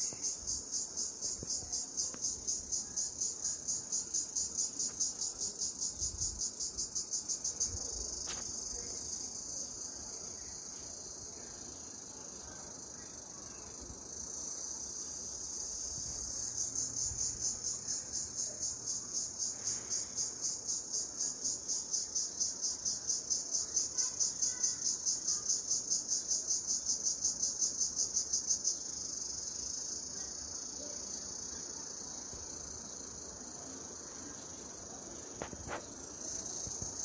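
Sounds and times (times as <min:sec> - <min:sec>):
high-pitched insect hiss: 0:00.0 - 0:37.0.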